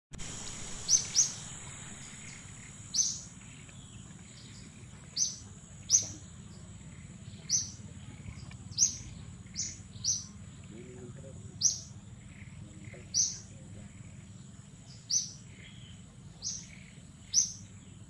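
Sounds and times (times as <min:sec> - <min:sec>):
insects droning: 0:00.2 - 0:18.0.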